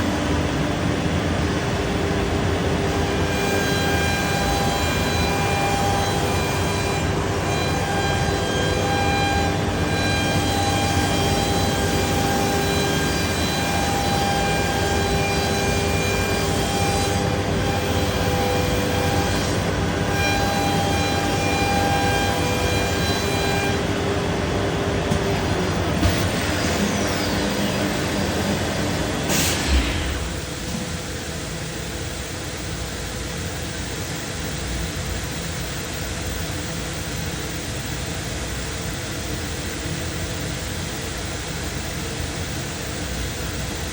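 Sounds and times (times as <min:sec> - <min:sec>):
cnc router milling wood: 0:00.0 - 0:43.9.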